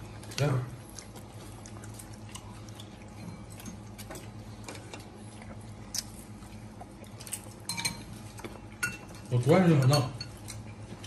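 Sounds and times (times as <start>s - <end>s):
close-up chewing: 0.0s - 9.4s
steady low hum: 0.0s - 11.0s.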